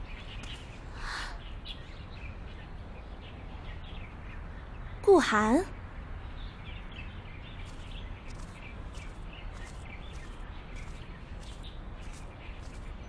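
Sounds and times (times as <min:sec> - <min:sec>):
low background noise: 0:00.0 - 0:13.0
small birds chirping: 0:00.0 - 0:13.0.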